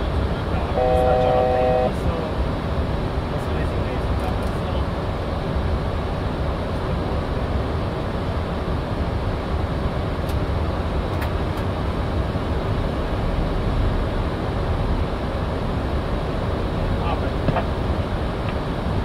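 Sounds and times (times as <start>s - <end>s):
airplane cockpit rumble: 0.0s - 19.0s.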